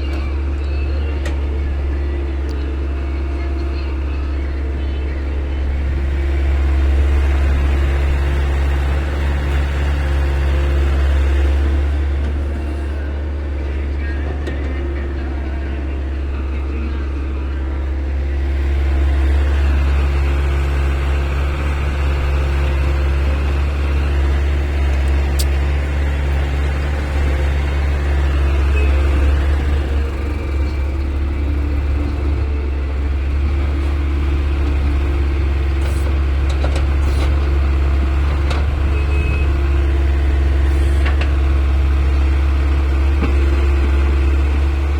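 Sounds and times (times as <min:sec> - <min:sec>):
diesel engine running under load: 0:00.0 - 0:44.9.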